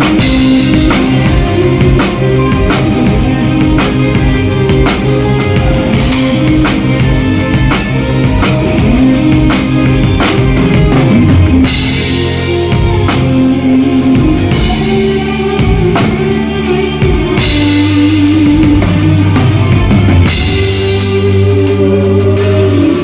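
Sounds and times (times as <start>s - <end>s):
rock band music: 0.0s - 23.0s.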